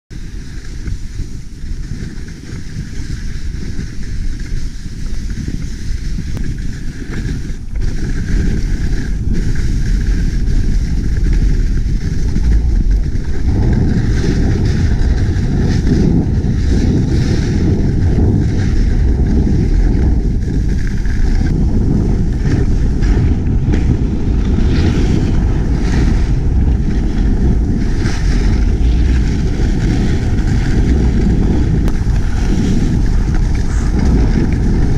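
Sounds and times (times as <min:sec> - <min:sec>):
wind rushing over microphone: 0:00.1 - 0:34.9
skis hissing over snow: 0:00.2 - 0:34.9.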